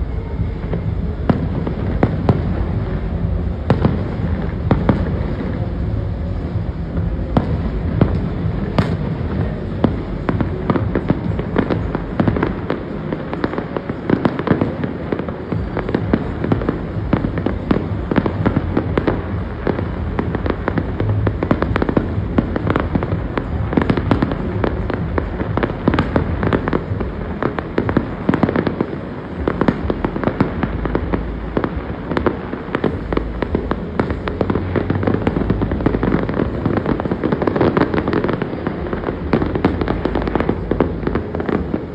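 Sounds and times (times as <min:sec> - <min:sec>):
fireworks booming: 0:00.0 - 0:41.9.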